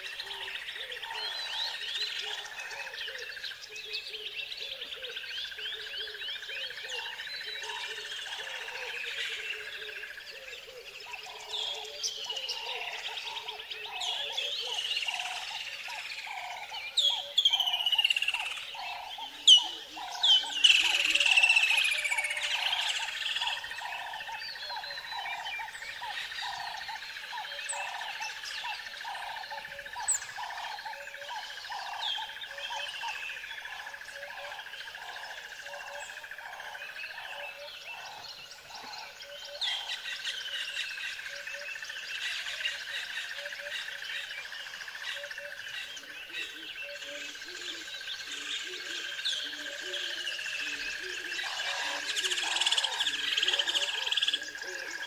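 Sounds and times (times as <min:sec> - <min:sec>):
soft repeated bird call: 0:00.0 - 0:55.0
birds chirping and whistling: 0:10.4 - 0:55.0.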